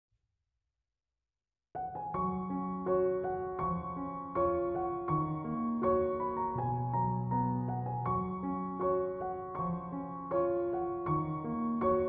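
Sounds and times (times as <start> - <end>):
soft piano music: 1.8 - 12.0.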